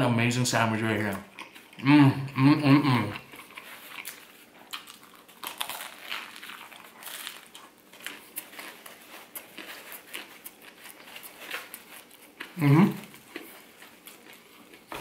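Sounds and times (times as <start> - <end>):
person chewing crunchy food: 0.9 - 1.8, 2.8 - 15.0.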